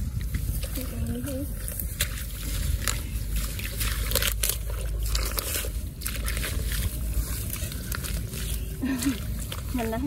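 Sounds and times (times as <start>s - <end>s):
hand squelching in wet mud: 0.0s - 10.0s
low rumble: 0.0s - 10.0s.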